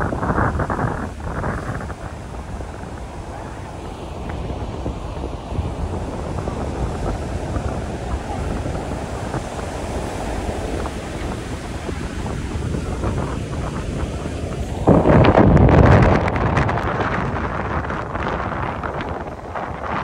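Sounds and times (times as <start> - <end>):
ocean surf rushing: 0.0 - 20.0
wind buffeting microphone: 0.0 - 20.0.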